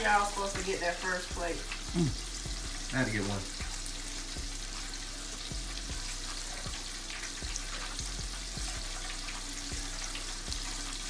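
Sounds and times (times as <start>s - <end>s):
grease popping: 0.0s - 11.0s
mushrooms sizzling in a pan: 0.0s - 11.0s.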